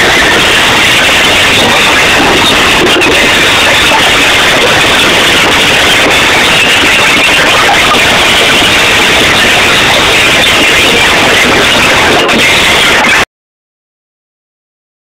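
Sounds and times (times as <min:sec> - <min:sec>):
distorted live band with singers: 0:00.0 - 0:13.2.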